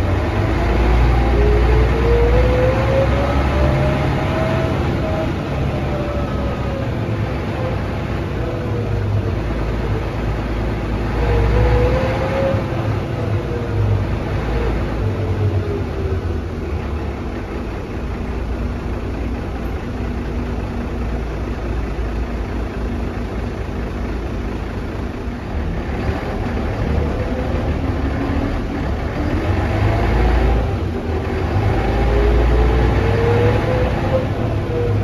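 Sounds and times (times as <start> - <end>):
bus engine drone: 0.0 - 35.0
drivetrain whine: 0.0 - 35.0.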